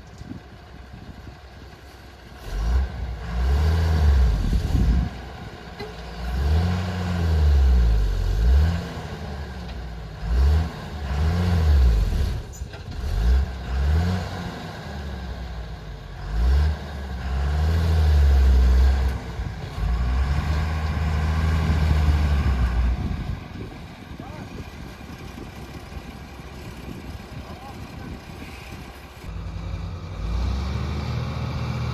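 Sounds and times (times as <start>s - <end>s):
diesel engine revving under load: 0.5s - 31.9s.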